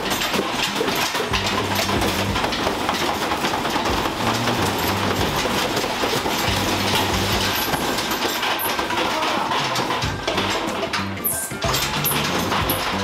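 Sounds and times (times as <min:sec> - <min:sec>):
washing machine clattering: 0:00.0 - 0:13.0.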